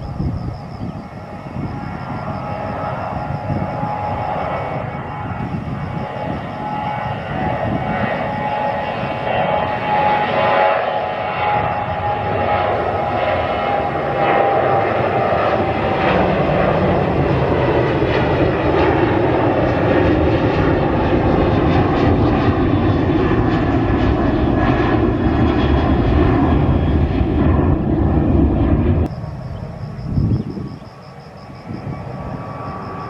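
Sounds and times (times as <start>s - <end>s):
airliner engines roaring: 0.0s - 33.0s.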